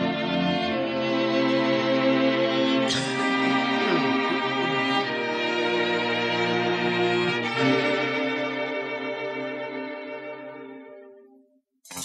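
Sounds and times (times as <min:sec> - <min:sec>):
bowed strings holding a chord: 0:00.0 - 0:10.8.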